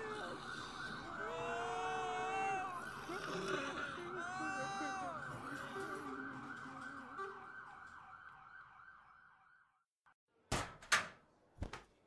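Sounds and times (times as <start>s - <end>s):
ambulance siren wailing: 0.0s - 9.9s.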